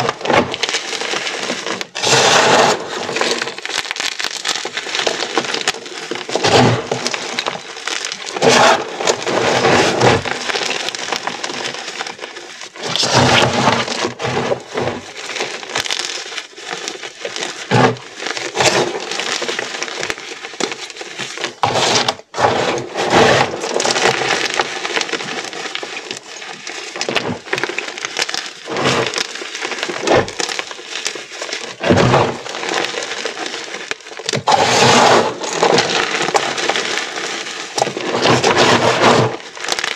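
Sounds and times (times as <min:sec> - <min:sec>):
chalk crunching by hand: 0:00.0 - 0:39.9.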